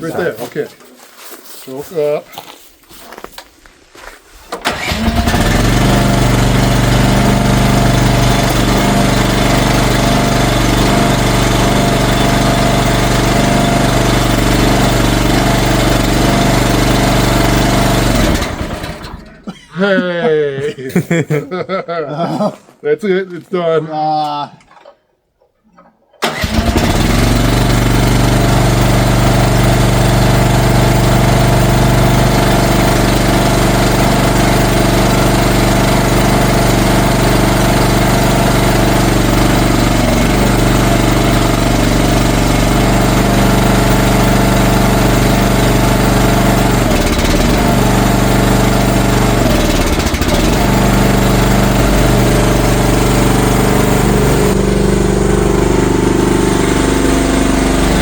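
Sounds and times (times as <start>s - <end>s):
mini excavator engine running: 4.5s - 19.4s, 26.2s - 58.0s.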